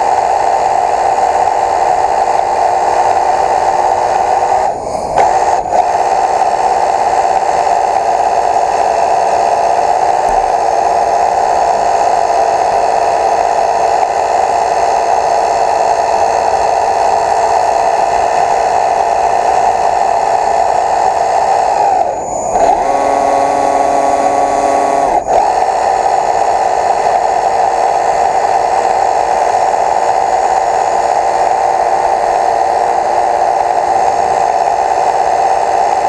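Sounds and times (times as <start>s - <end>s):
small motor whining: 0.0s - 36.0s.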